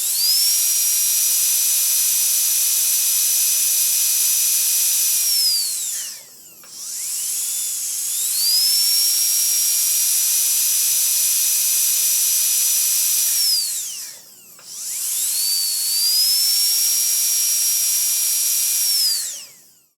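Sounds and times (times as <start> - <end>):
dentist's drill whining: 0.0 - 20.0.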